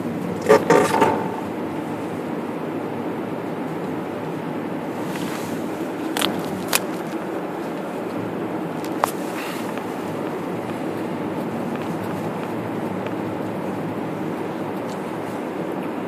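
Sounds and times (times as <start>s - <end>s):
car tyre and engine noise: 0.0s - 16.0s.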